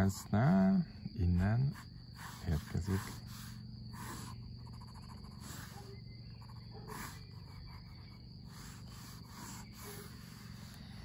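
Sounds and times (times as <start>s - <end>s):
steady low hum: 0.0s - 11.0s
pencil scratching on paper: 1.7s - 11.0s.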